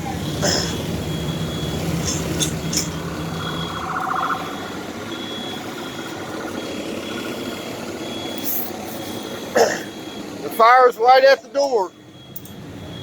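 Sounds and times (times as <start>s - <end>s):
high-pitched electronic alarm beeping: 0.0s - 13.0s
truck engine rumbling: 0.0s - 13.0s.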